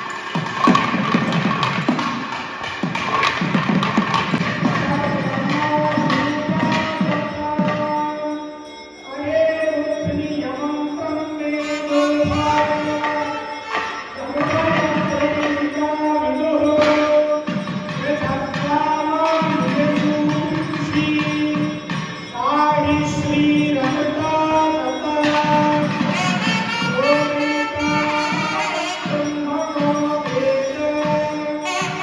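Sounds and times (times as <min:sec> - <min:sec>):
thavil drums beating fast: 0:00.0 - 0:08.4, 0:09.3 - 0:32.0
nadaswaram melody: 0:00.0 - 0:32.0.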